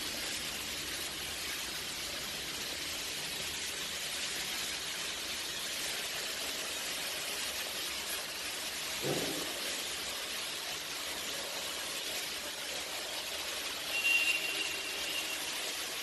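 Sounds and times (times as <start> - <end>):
workshop hissing noise: 0.0 - 16.0.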